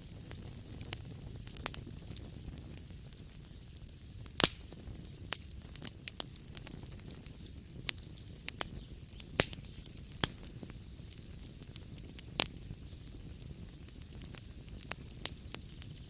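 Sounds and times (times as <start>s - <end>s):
low steady fire rumble: 0.0s - 16.0s
wood fire crackling and popping: 0.0s - 16.0s.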